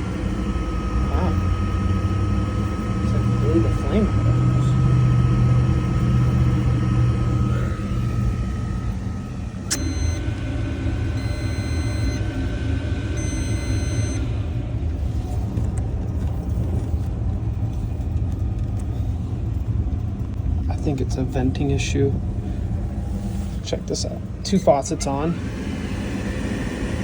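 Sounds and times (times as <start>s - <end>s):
high whine: 0.0s - 27.0s
water heater burner rumble: 0.0s - 27.0s.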